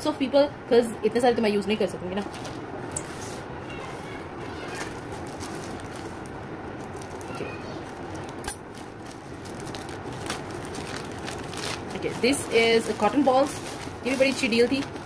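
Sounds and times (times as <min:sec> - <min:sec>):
plastic mailer rustling: 0:02.2 - 0:15.0.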